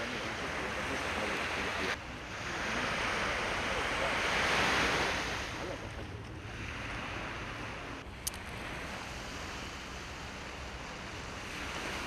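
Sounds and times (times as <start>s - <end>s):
waves washing onto pebbly shore: 0.0s - 12.0s.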